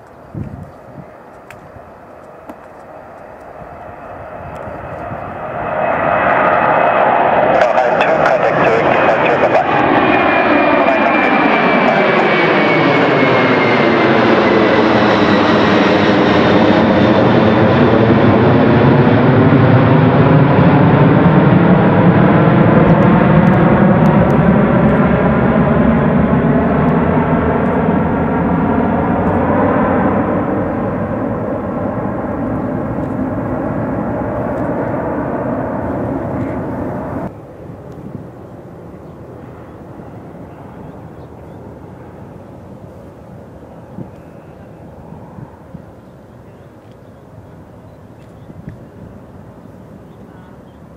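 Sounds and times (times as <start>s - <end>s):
jet engine roar and whine: 0.0s - 50.9s.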